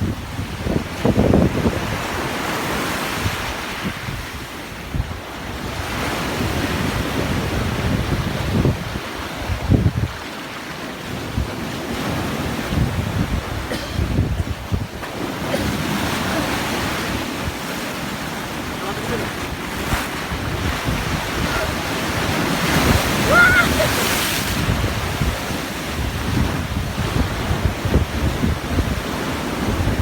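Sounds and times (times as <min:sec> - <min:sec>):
wind gusts buffeting microphone: 0:00.0 - 0:10.3, 0:11.1 - 0:30.0
heavy waves surging and washing in: 0:00.0 - 0:30.0.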